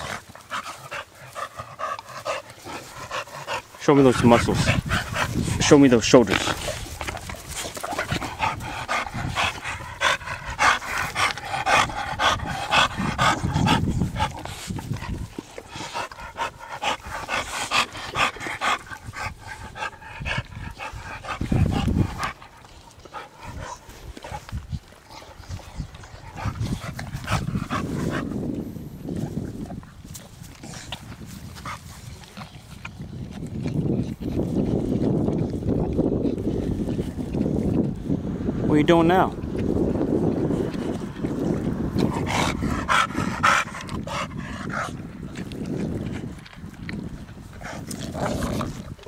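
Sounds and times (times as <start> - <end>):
dog panting: 0.0 - 37.5, 40.5 - 49.0.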